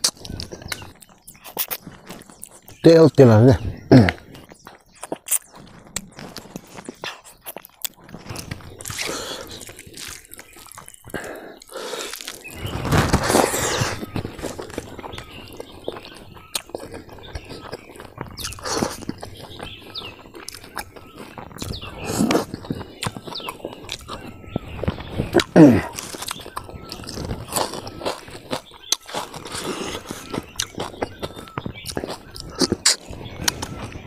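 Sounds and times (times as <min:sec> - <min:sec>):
chewing and crunching: 0:00.0 - 0:34.0.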